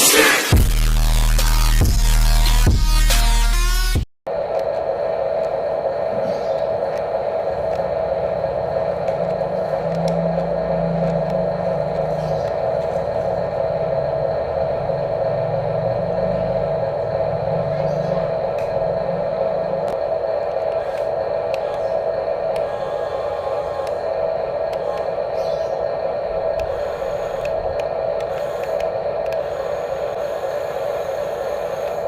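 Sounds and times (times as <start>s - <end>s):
electric motors whining: 0.0s - 32.0s
low motor hum: 4.3s - 32.0s.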